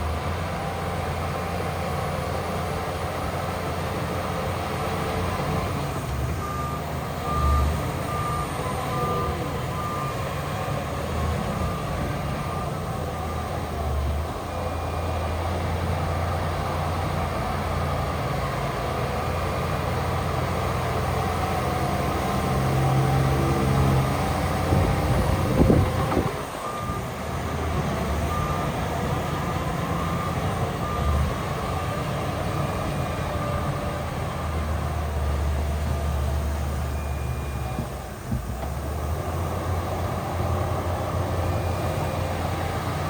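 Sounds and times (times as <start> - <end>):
heavy diesel machinery running: 0.0 - 43.0
truck reversing alarm beeping: 0.0 - 43.0.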